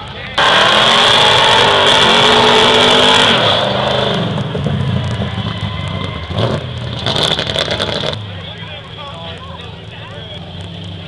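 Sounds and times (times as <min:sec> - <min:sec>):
car engine revving: 0:00.3 - 0:11.0.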